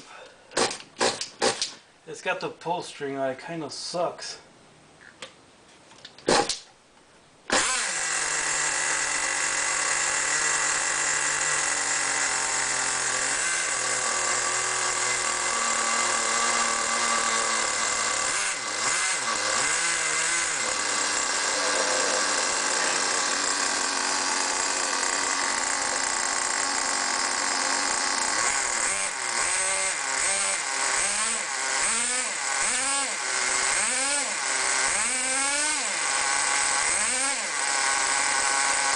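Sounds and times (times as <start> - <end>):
small nitro engine running: 7.5 - 38.9.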